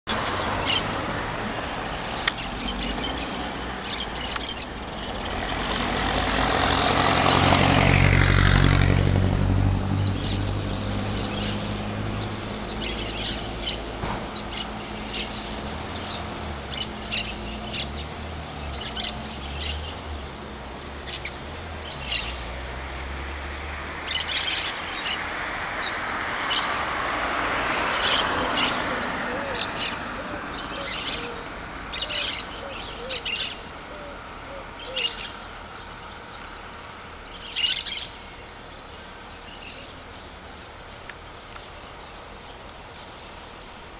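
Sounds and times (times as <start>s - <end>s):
small birds chirping: 0.1s - 8.0s, 9.6s - 43.9s.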